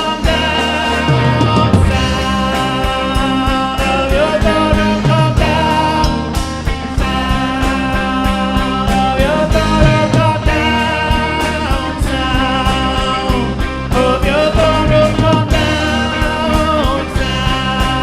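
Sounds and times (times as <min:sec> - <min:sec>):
rock band playing: 0:00.0 - 0:18.0
sliding lead melody: 0:00.0 - 0:18.0
steady drum beat: 0:00.0 - 0:18.0.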